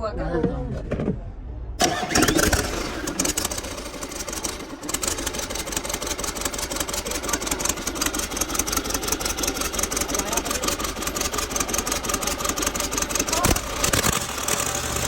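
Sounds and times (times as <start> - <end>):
diesel engine running: 1.8 - 15.0.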